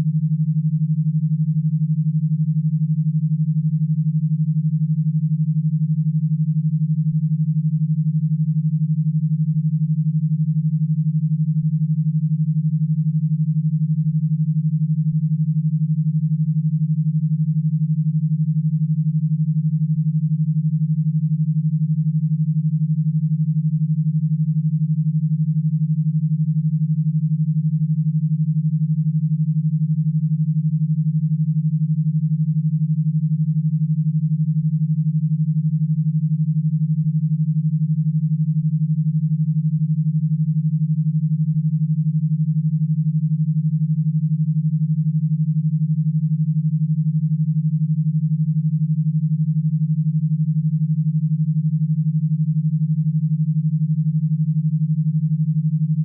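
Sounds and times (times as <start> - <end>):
low pulsing electronic tone: 0.0 - 56.0.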